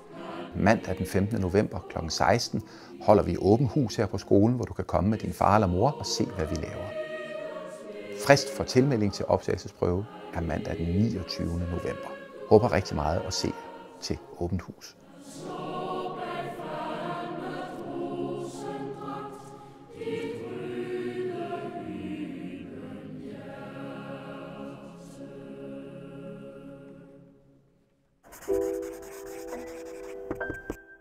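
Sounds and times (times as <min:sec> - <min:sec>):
choir singing chords: 0:00.0 - 0:27.8.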